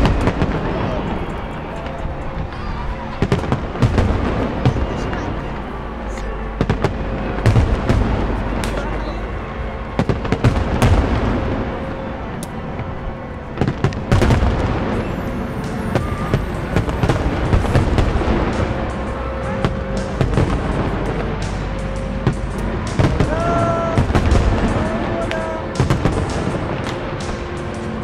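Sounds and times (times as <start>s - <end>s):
low rumble: 0.0s - 28.0s
music playing: 0.0s - 28.0s.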